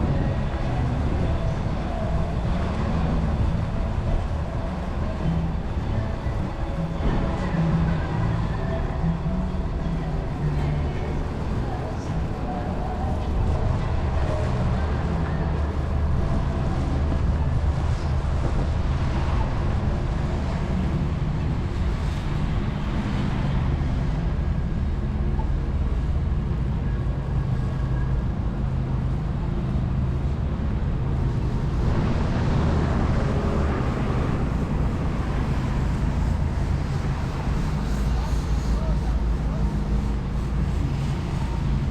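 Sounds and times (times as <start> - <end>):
city traffic rumble: 0.0 - 41.9
wind buffeting microphone: 0.0 - 41.9.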